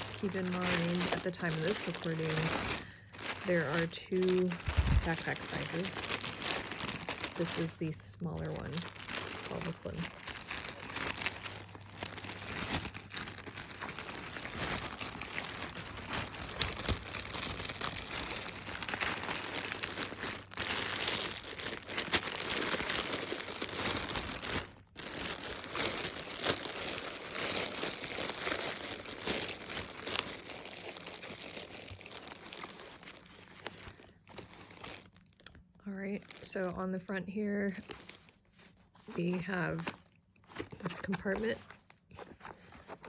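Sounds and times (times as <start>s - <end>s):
packaging crinkling and rustling: 0.0s - 37.0s, 37.6s - 43.0s.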